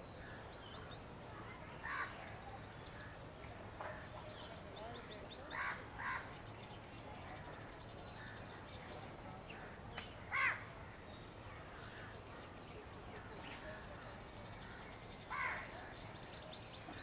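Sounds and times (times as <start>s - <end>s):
bird calls: 0.0s - 17.0s.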